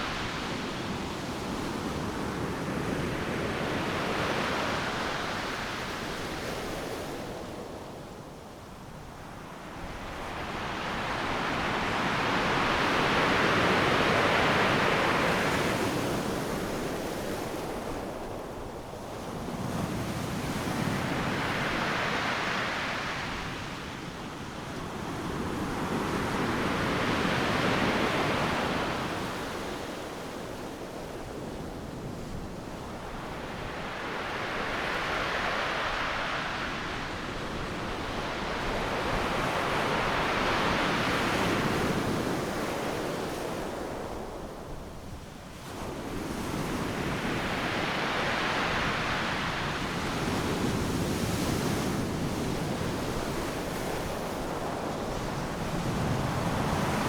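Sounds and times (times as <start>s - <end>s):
waves crashing on a beach: 0.0s - 57.0s.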